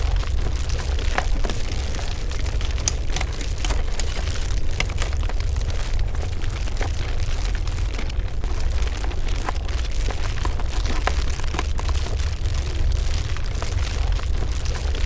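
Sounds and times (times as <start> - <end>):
crackles and pops: 0.0 - 15.0
deep steady rumble: 0.0 - 15.0.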